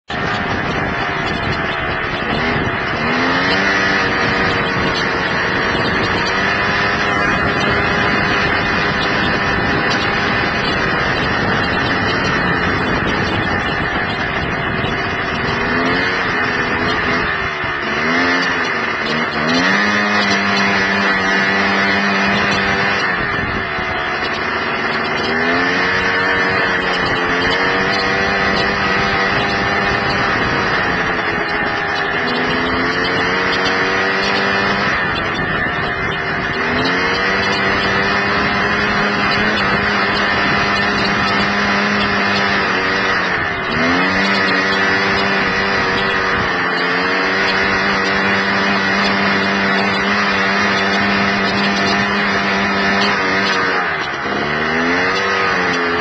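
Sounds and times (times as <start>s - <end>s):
dune buggy engine revving: 0.0s - 56.0s.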